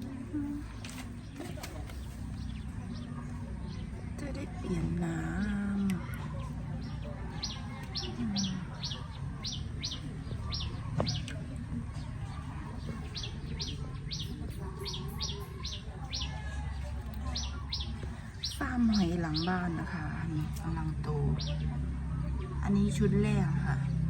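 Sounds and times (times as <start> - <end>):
bird chirping: 0.1 - 16.4, 17.2 - 21.9.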